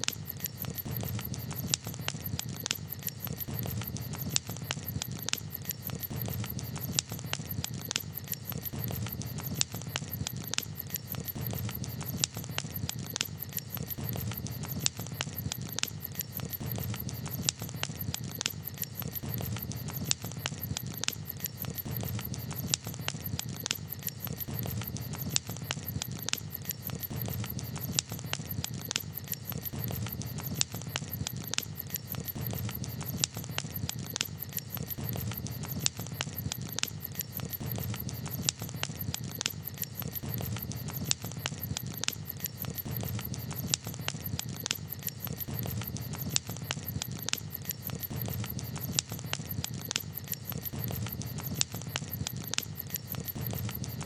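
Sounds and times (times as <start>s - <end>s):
campfire crackling: 0.0s - 54.0s
sharp pops and snaps: 0.0s - 54.0s
steady low fire rumble: 0.2s - 54.0s.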